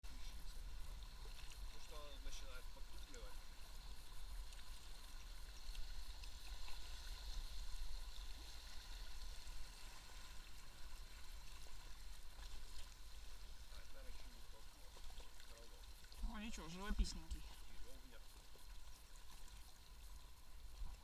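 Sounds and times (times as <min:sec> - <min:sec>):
river water gurgling around kayak: 0:00.0 - 0:21.0.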